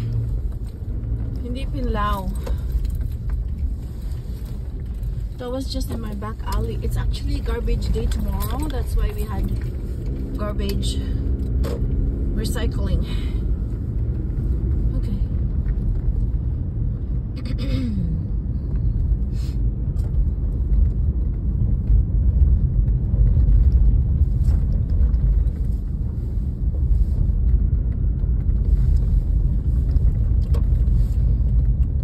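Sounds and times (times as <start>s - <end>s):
car rumble on snowy road: 0.0s - 32.0s.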